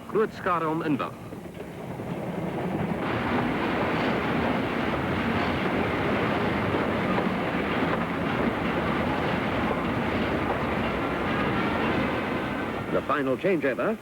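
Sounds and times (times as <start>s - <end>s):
steam train running on rails: 0.0s - 14.0s.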